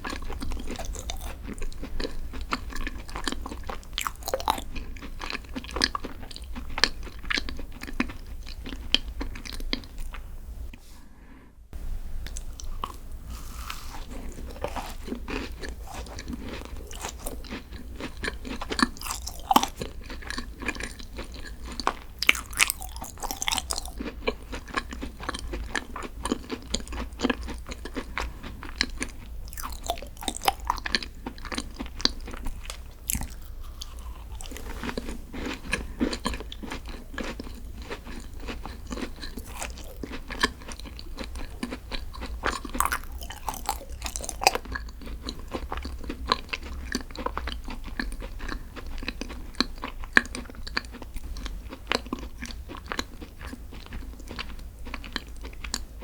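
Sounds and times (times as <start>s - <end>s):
person biting and chewing: 0.0s - 10.2s, 12.3s - 55.8s.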